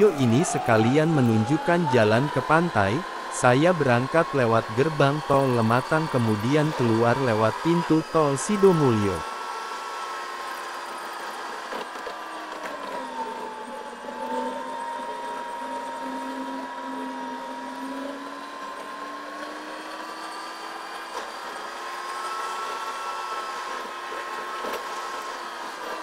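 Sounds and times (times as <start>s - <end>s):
engine whine rising in pitch: 0.0s - 26.0s.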